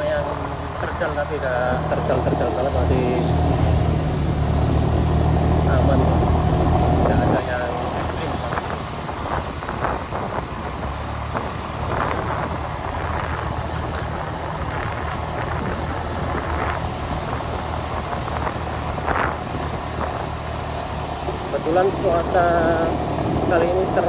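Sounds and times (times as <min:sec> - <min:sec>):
road noise: 0:00.0 - 0:24.0
vehicle engine running: 0:00.0 - 0:24.0.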